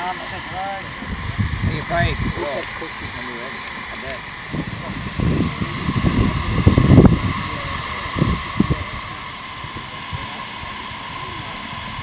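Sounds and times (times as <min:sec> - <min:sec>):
low rumbling bursts: 0:00.0 - 0:12.0
steam hissing: 0:00.0 - 0:12.0.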